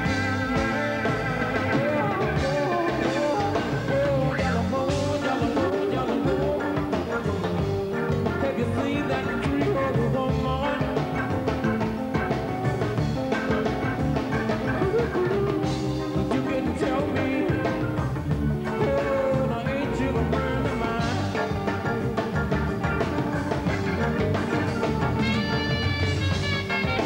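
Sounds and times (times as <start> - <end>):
live rock band playing: 0.0 - 27.0
saxophone line: 0.0 - 27.0.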